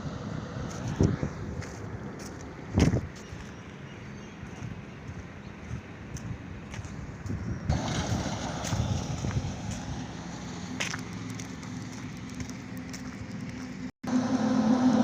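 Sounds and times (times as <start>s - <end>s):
engine drone with low hum: 0.0s - 15.0s
highway truck traffic drone: 0.0s - 15.0s.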